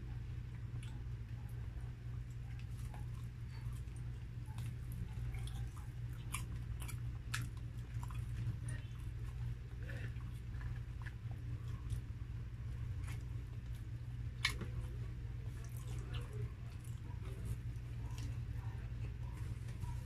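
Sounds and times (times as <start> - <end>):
chewing and biting food: 0.1 - 20.0.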